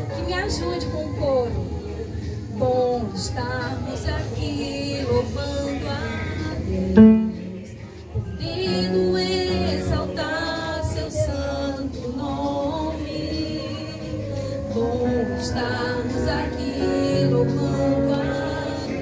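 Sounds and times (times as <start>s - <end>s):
woman singing hymn over loudspeakers: 0.0s - 19.0s.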